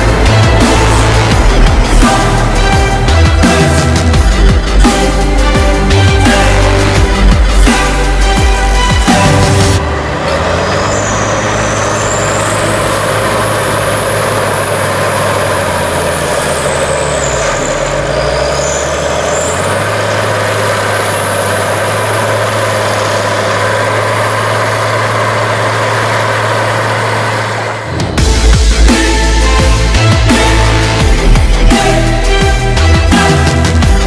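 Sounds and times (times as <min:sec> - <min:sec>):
high whine: 0:00.0 - 0:34.0
tractor diesel engine under load: 0:00.0 - 0:34.0.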